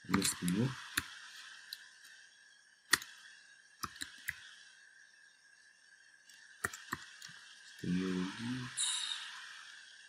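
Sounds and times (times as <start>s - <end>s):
faint background noise: 0.0s - 10.0s.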